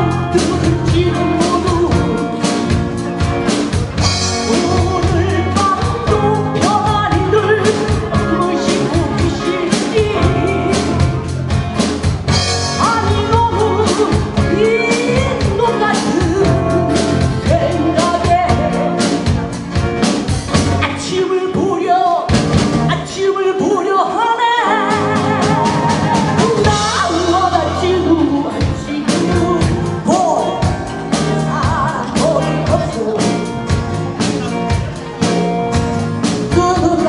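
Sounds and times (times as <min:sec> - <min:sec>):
person singing: 0:00.0 - 0:20.0, 0:20.6 - 0:37.0
drum beat: 0:00.0 - 0:20.8, 0:25.0 - 0:37.0
band playing blues rock: 0:00.0 - 0:37.0.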